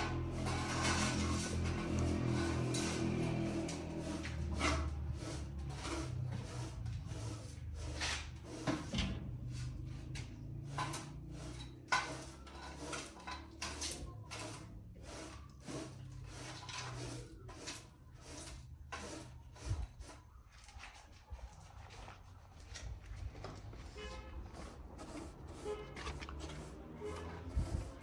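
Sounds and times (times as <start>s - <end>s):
scraping and knocking: 0.0s - 20.3s, 23.4s - 28.0s.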